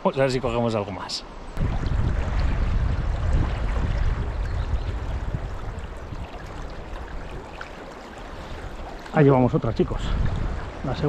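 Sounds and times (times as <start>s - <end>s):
river water running over stones: 1.6s - 11.0s.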